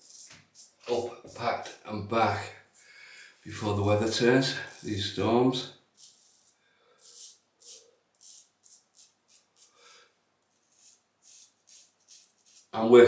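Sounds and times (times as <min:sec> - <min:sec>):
razor scraping stubble: 0:00.0 - 0:01.8, 0:02.8 - 0:05.4, 0:06.0 - 0:09.9, 0:10.5 - 0:12.9.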